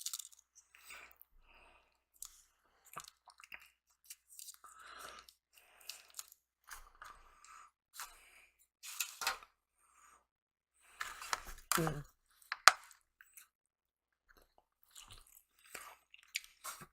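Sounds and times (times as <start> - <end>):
chewing and crunching food: 0.0 - 9.1, 10.8 - 16.9.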